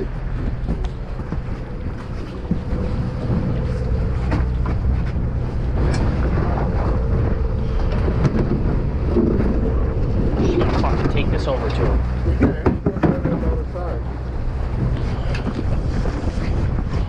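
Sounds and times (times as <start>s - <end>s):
boat engine rumbling: 0.0s - 17.0s
wind buffeting microphone: 0.0s - 17.0s.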